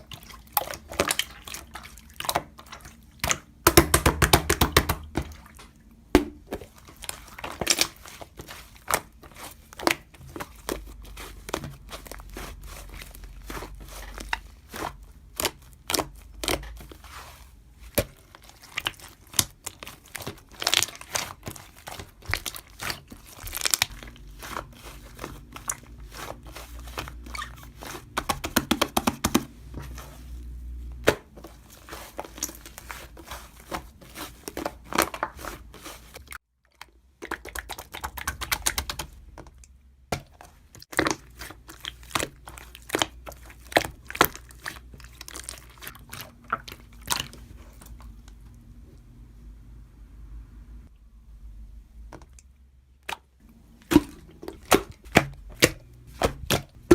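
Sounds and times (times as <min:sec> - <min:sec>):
clicks taps and crinkling rustles: 0:00.0 - 0:49.2, 0:52.0 - 0:56.9.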